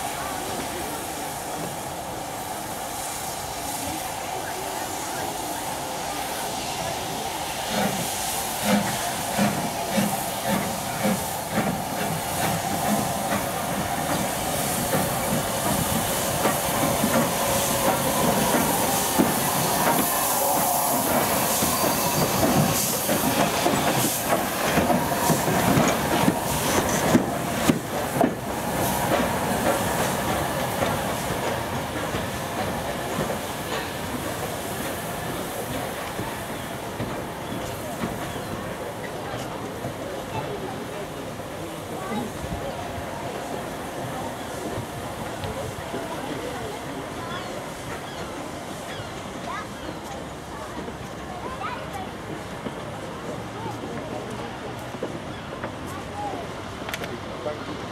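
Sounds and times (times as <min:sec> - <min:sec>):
steam locomotive exhaust chuffs: 0:00.0 - 0:49.5
steam hissing: 0:00.0 - 0:57.9
train running noise: 0:00.0 - 0:57.9.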